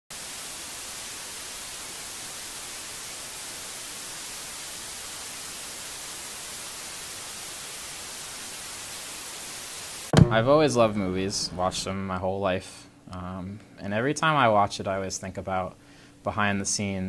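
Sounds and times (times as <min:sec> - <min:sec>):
television static hiss: 0:00.2 - 0:17.0.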